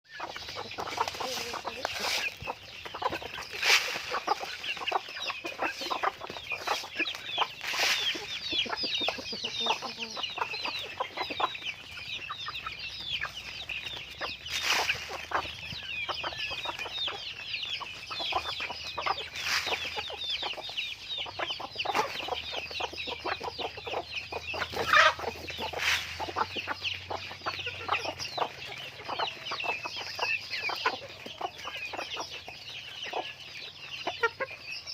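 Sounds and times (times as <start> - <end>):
chickens clucking and calling: 0.0 - 34.9.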